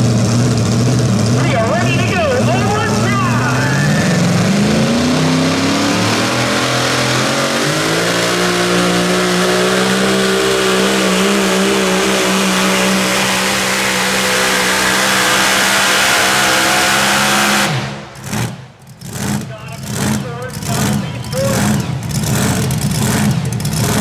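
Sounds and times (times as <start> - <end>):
truck engine at full throttle: 0.0 - 24.0.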